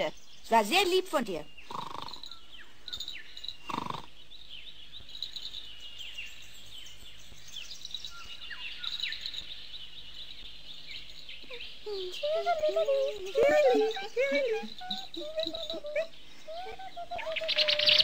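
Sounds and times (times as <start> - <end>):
faint steady hiss: 0.0 - 18.0
small birds chirping: 0.0 - 18.0.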